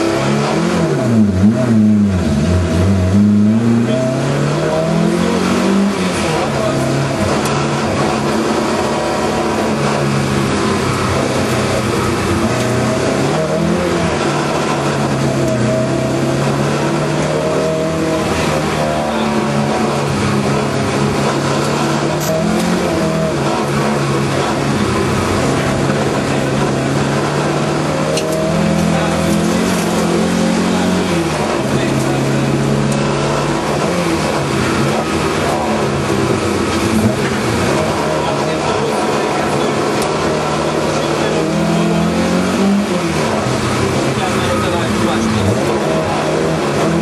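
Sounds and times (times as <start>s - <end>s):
car engine revving hard: 0.0s - 47.0s.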